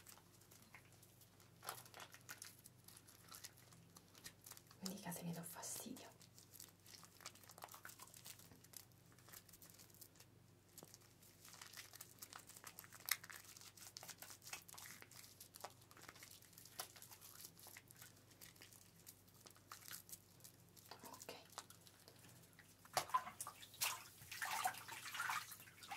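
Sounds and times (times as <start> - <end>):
shampoo foam crackling and squishing: 0.0 - 25.9.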